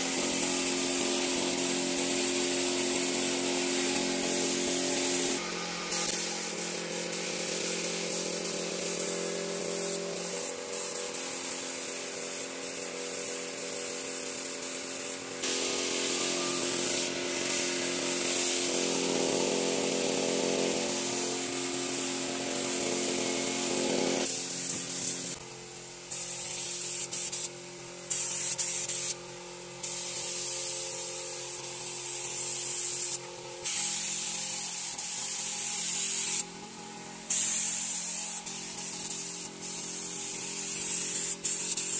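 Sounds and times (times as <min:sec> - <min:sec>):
spray gun hissing: 0:00.0 - 0:41.9.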